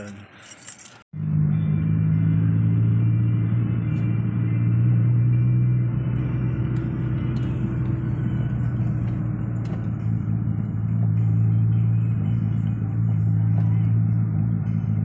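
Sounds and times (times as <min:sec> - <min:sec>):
road and tyre rumble: 0:00.0 - 0:15.0
car engine drone: 0:01.2 - 0:15.0.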